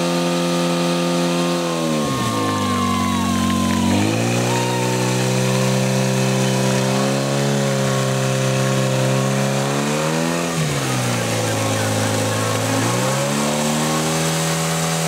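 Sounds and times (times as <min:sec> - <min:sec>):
pump engine droning: 0:00.0 - 0:15.0.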